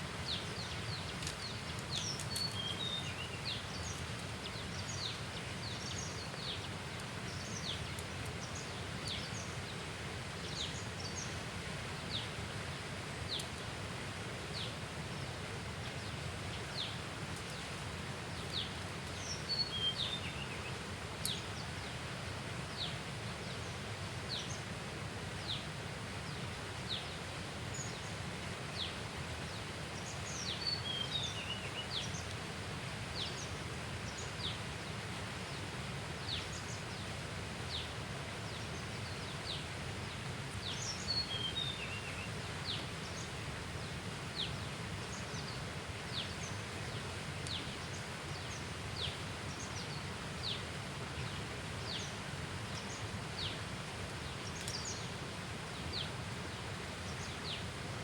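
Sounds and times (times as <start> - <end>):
low background noise: 0.0 - 58.0.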